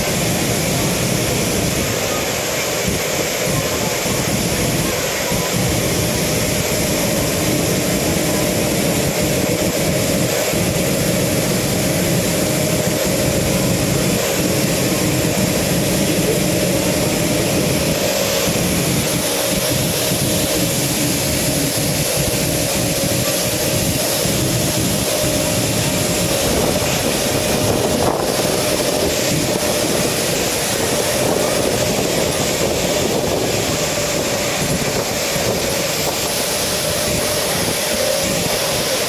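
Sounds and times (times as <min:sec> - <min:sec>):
jet turbine running: 0:00.0 - 0:39.0.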